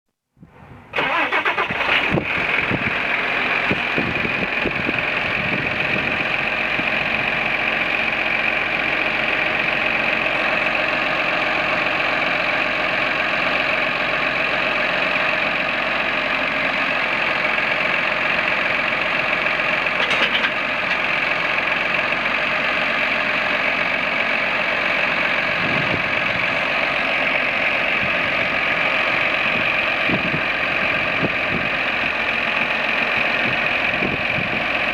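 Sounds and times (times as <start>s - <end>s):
tractor diesel engine running: 0.6s - 34.9s.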